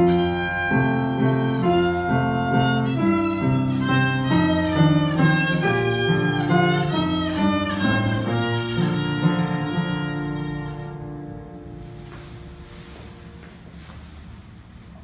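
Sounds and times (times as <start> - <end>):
violin melody: 0.0 - 13.0
piano accompaniment: 0.0 - 15.0.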